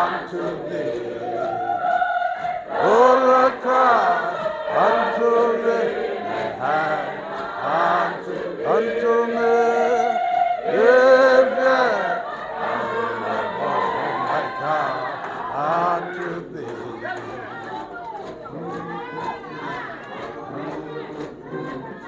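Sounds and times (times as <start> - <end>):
group singing a chant: 0.0 - 22.0.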